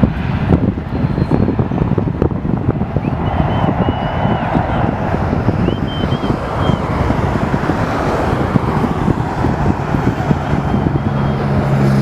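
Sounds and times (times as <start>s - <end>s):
jet engine roar: 0.0s - 12.0s
low engine hum: 0.0s - 12.0s
wind gusting on microphone: 0.0s - 12.0s.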